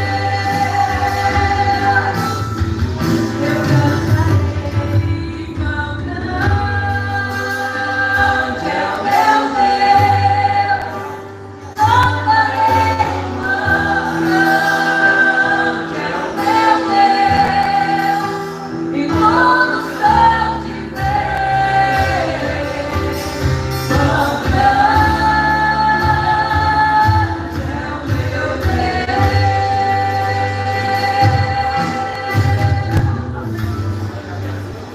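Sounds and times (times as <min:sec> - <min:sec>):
gospel band playing and singing: 0:00.0 - 0:34.9.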